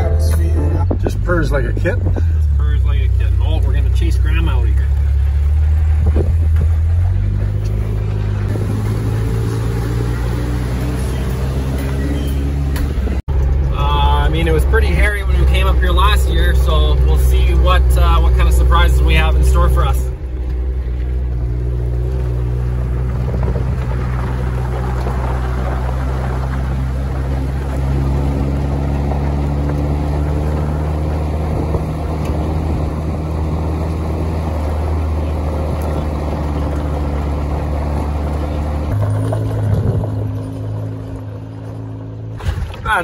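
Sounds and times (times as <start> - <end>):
truck engine running: 0.0 - 43.0
tyre and road noise: 0.0 - 43.0.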